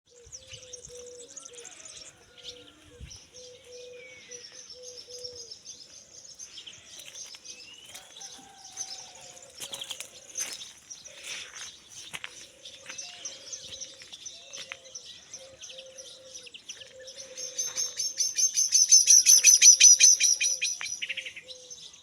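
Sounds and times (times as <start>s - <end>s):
birds chirping and calling: 0.1s - 22.0s.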